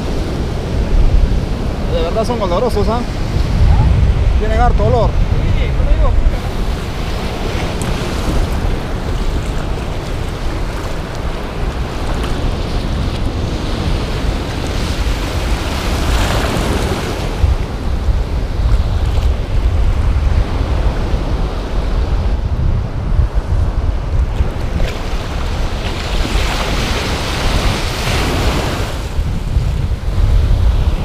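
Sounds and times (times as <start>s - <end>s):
ocean surf breaking: 0.0s - 31.0s
wind buffeting microphone: 0.0s - 31.0s.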